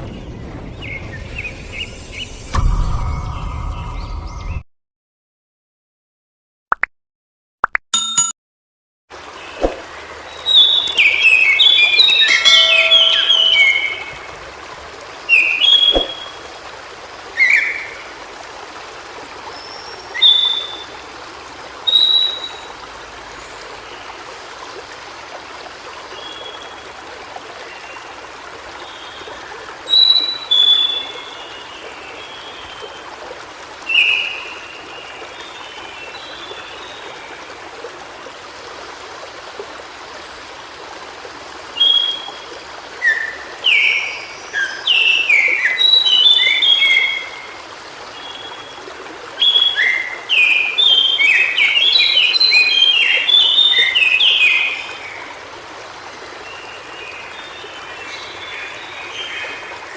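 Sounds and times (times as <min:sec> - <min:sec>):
stream rushing: 0:09.1 - 0:59.9.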